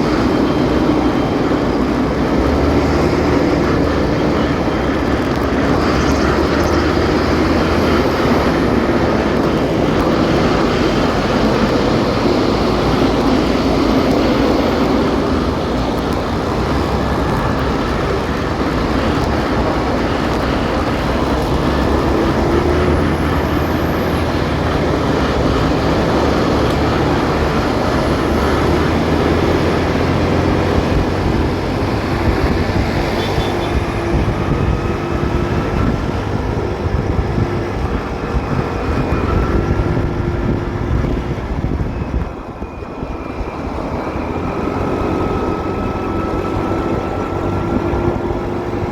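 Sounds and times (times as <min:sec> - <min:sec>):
wind and road noise: 0:00.0 - 0:48.9.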